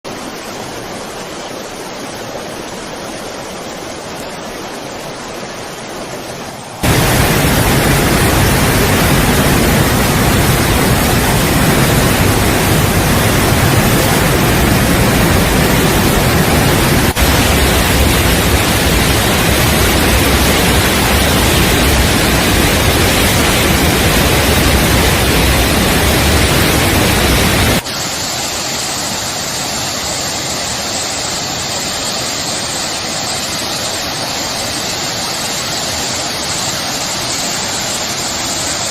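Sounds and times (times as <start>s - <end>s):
floodwater rushing: 0.1s - 38.9s.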